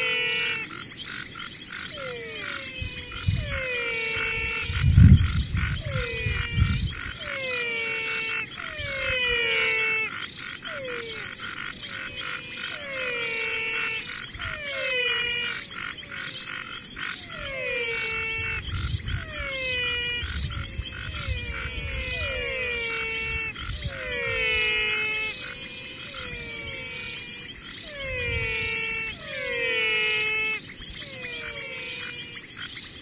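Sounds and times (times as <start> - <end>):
falling whistle-like calls: 0.0 - 32.4
steady high hiss: 0.0 - 33.0.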